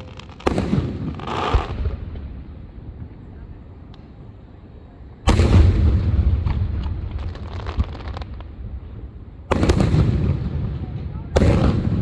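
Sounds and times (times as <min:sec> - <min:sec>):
fireworks booming: 0:00.0 - 0:04.2, 0:05.2 - 0:12.0
fireworks crackling: 0:00.0 - 0:04.3, 0:05.2 - 0:12.0.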